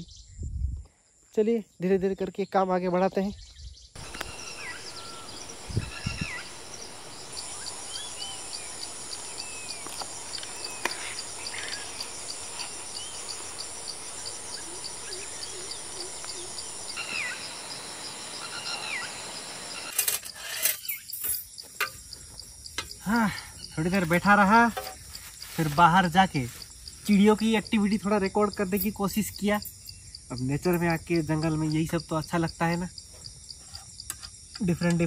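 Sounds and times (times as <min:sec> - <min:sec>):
insects trilling: 0:01.0 - 0:35.0
birds chirping: 0:01.4 - 0:32.9.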